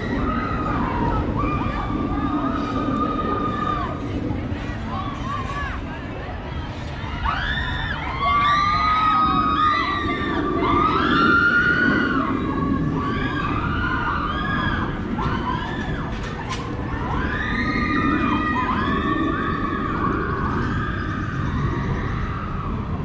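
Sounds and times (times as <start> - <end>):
children shouting and screaming: 0.0 - 6.0, 7.0 - 23.0
low rumble: 0.0 - 23.0.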